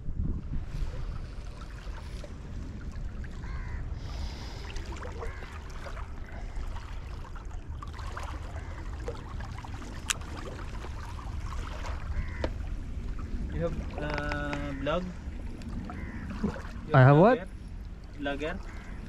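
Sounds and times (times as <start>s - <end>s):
wind rumbling on microphone: 0.0s - 19.0s
water lapping against rocks: 0.6s - 19.0s.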